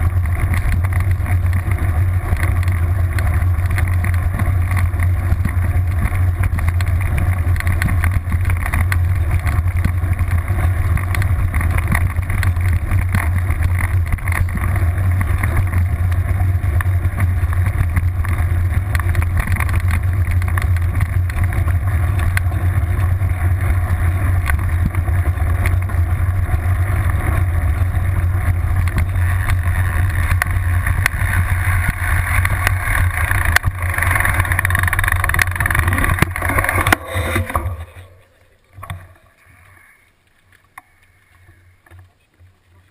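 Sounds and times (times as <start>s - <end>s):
bike tyre rolling over gravel: 0.0s - 42.9s.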